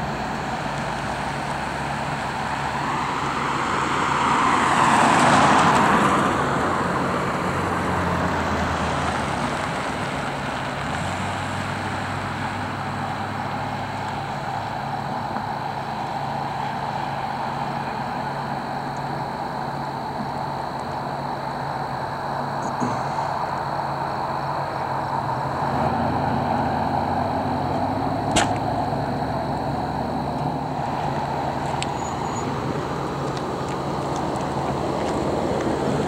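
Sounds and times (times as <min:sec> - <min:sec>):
car passing close by: 0:00.0 - 0:36.0
low engine hum: 0:00.0 - 0:36.0.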